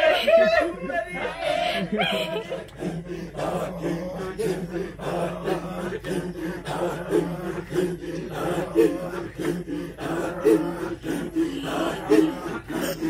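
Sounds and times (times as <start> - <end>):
men singing a cappella: 1.2 - 13.0.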